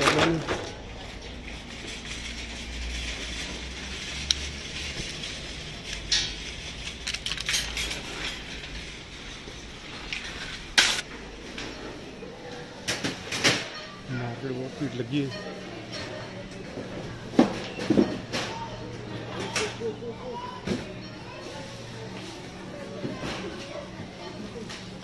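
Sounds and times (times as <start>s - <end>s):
shopping trolley rattling: 0.0s - 25.0s.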